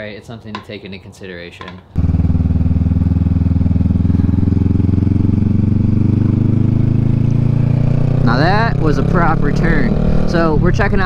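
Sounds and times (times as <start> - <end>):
motorcycle engine running: 2.0 - 11.0.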